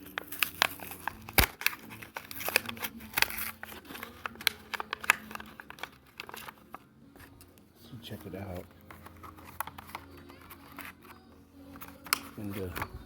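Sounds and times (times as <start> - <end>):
plastic toy clicking and crinkling: 0.0 - 13.0.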